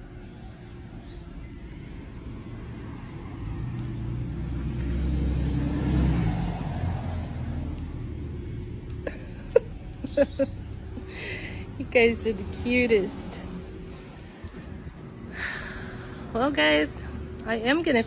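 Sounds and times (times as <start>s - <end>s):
vehicle driving past: 0.4s - 18.0s.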